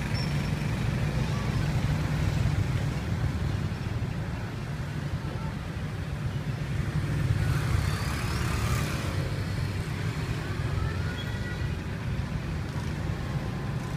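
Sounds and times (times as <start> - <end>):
low rumble of street traffic: 0.0 - 13.9.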